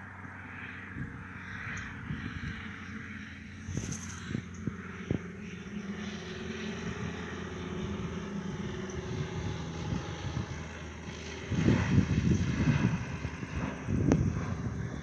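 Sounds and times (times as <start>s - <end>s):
plane engine and propeller droning: 0.0s - 15.0s
wind buffeting microphone: 0.8s - 15.0s.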